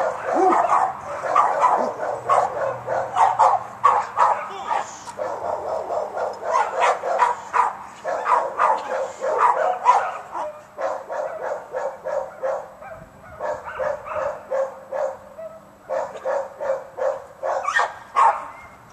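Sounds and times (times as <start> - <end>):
dog barking: 0.0 - 18.8.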